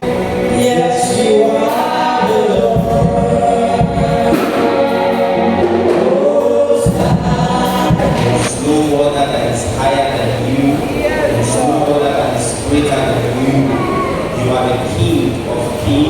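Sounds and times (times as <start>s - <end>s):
choir singing gospel with band: 0.0s - 16.0s.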